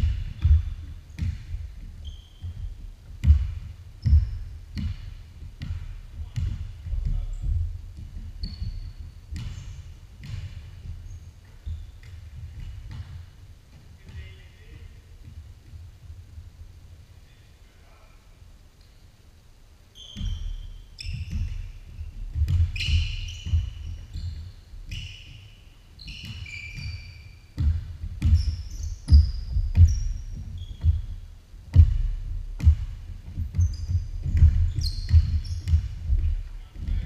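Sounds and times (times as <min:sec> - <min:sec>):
sneakers squeaking: 0:00.0 - 0:15.9, 0:19.9 - 0:37.0
basketball bouncing on wooden floor: 0:00.0 - 0:16.2, 0:20.0 - 0:37.0.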